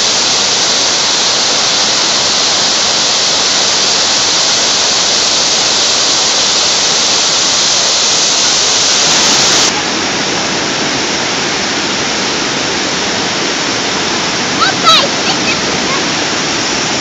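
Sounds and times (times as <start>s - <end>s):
fountain water rushing: 0.0s - 17.0s.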